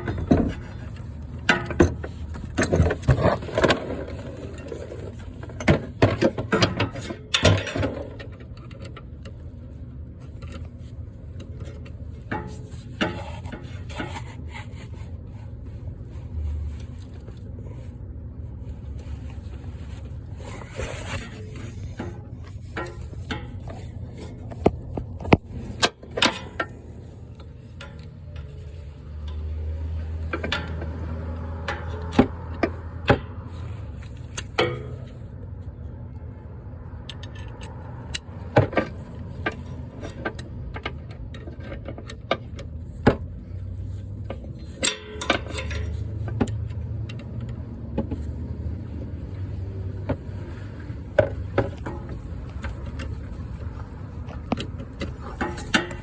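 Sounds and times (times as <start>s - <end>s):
metal knocks and scraping: 0.0s - 35.9s, 36.9s - 56.0s.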